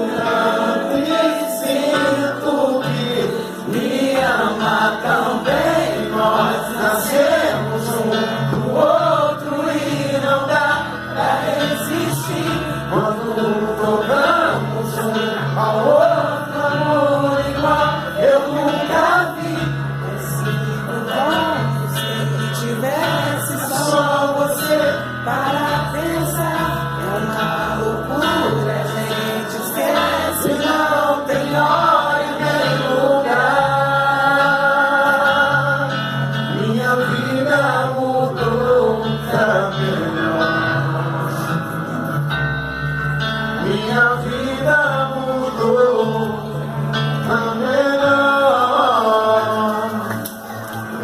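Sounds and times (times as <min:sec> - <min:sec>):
man singing love song: 0:00.0 - 0:41.6, 0:43.6 - 0:50.3
instrumental backing: 0:00.0 - 0:51.0.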